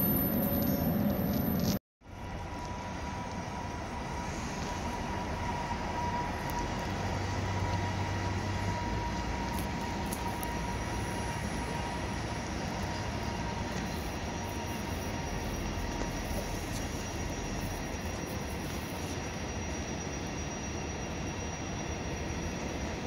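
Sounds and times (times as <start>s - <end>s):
faint high whine: 0.0s - 23.0s
wheels rumbling on rails: 0.0s - 23.0s.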